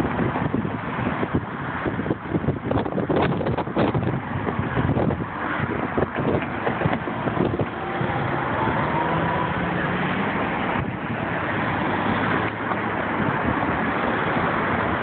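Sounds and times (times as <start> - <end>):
accelerating car whine: 0.0 - 15.0
cars passing: 0.0 - 15.0.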